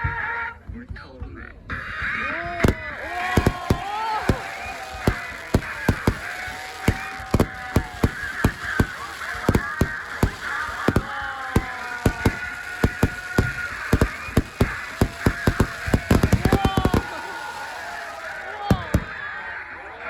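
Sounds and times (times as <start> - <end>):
fireworks bangs: 2.4 - 19.9.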